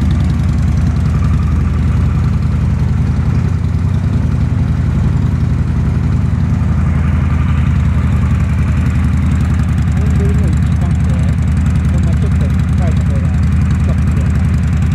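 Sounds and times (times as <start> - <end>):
motorcycle engines idling: 0.0 - 14.9.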